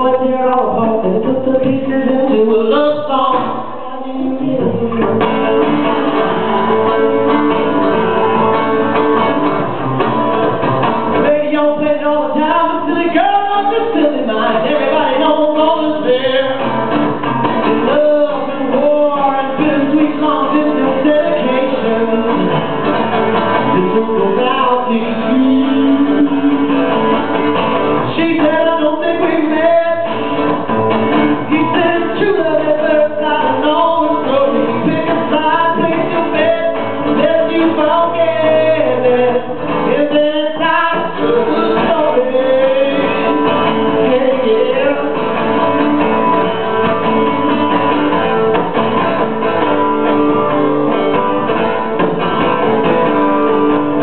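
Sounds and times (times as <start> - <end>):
man singing: 0.0 - 6.7, 10.8 - 48.5
acoustic guitar: 0.0 - 54.0.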